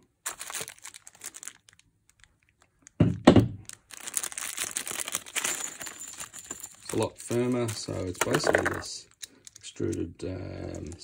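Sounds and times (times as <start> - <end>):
plastic bag crinkling: 0.0 - 3.0, 3.6 - 11.0.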